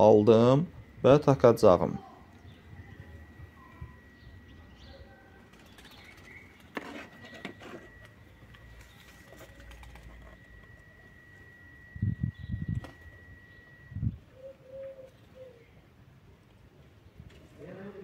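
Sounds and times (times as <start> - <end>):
birds calling faintly: 0.0 - 17.8
faint high-pitched whine: 0.0 - 18.0.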